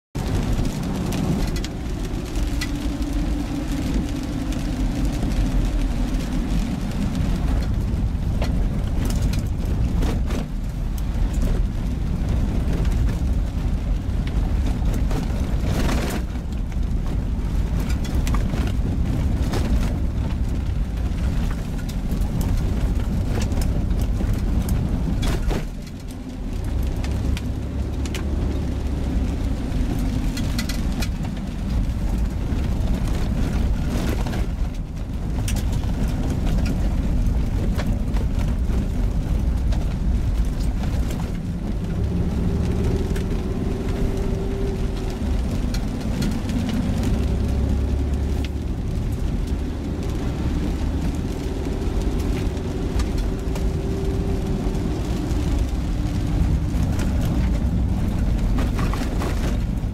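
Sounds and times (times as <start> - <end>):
car engine and tyre rumble: 0.1 - 59.9.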